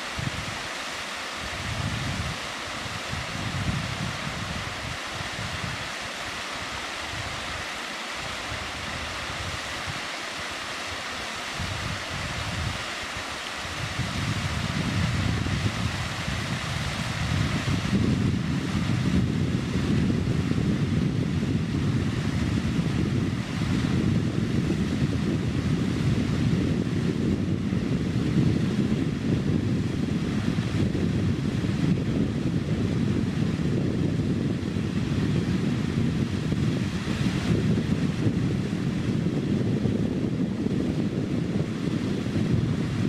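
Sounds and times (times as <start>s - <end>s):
waterfall rushing hiss: 0.0s - 43.0s
wind buffeting microphone: 0.0s - 43.0s.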